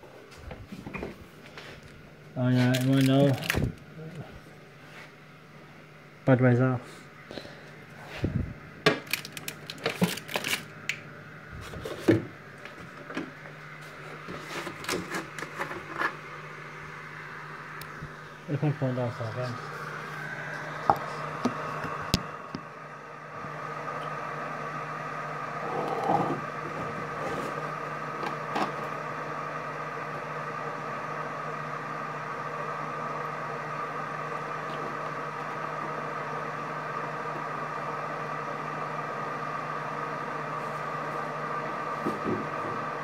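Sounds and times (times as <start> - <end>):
kitchen appliance humming: 0.0 - 6.2, 6.9 - 43.0.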